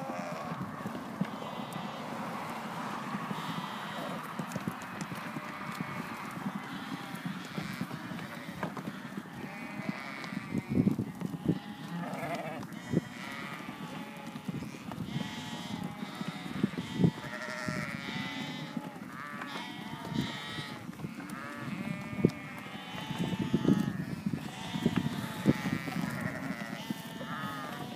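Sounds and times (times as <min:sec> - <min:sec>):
sheep and lambs bleating: 0:00.0 - 0:27.9.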